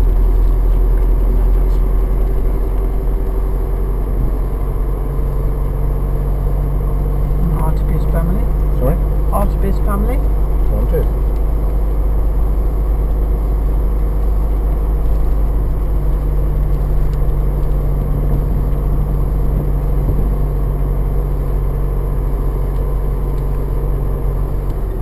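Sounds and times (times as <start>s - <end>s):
car engine and tyre drone: 0.0s - 25.0s.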